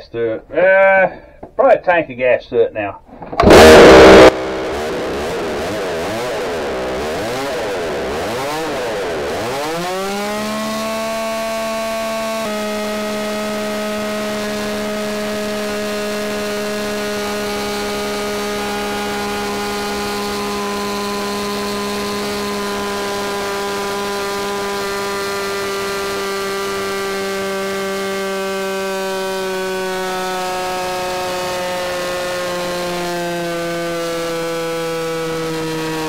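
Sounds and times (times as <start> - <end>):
chainsaw engine at full throttle: 3.4 - 36.0.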